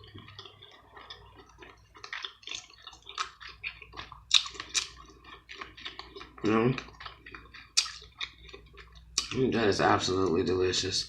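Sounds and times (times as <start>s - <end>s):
wet chewing and mouth smacking: 0.0s - 10.4s.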